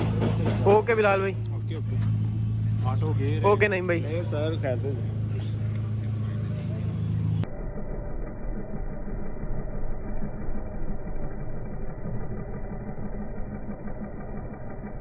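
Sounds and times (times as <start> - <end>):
muffled car engine idling: 0.0 - 15.0.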